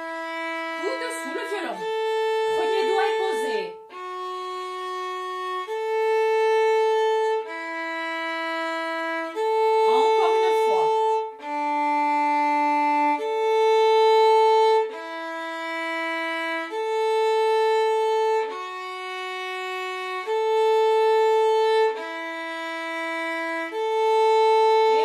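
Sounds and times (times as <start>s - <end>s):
solo violin long bowed notes: 0.0s - 25.0s.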